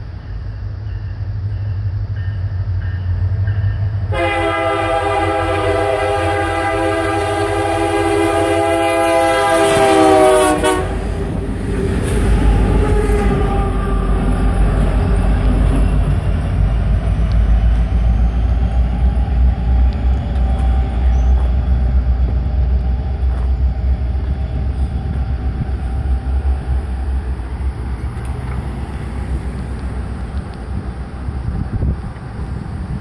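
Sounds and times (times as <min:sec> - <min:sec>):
freight train rumbling: 0:00.0 - 0:33.0.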